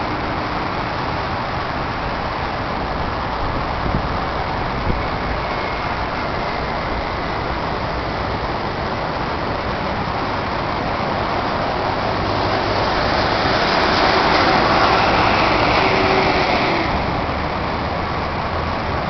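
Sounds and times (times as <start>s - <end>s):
city road traffic: 0.0s - 19.0s.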